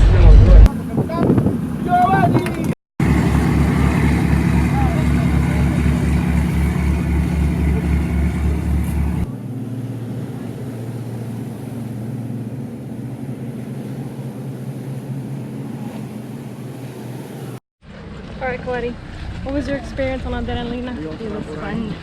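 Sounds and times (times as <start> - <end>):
motorboat engine pulsing: 0.0 - 22.0.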